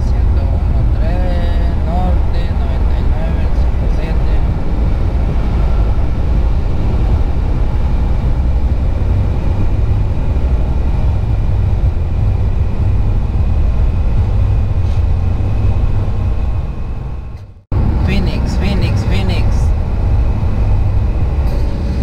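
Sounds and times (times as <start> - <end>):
road and engine noise in car cabin: 0.0 - 22.0.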